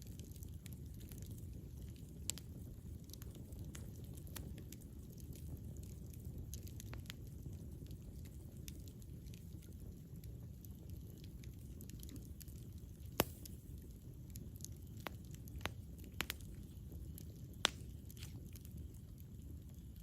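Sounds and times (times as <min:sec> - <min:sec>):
burning wood crackling and popping: 0:00.0 - 0:20.0
campfire flames rustling: 0:00.0 - 0:20.0.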